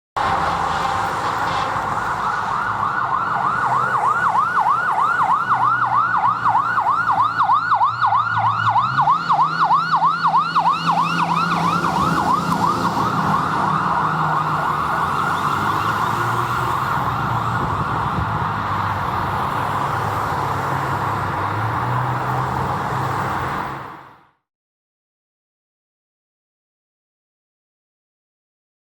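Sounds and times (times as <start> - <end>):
truck engine: 0.1 - 24.3
fire engine siren: 0.2 - 24.3.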